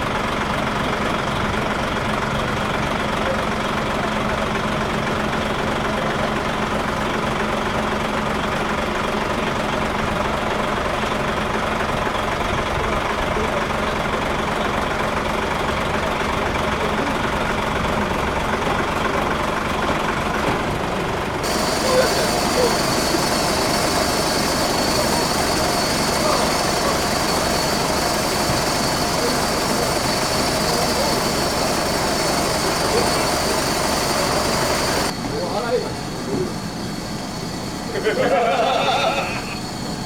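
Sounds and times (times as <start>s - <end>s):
heavy vehicle engine idling: 0.0s - 40.0s.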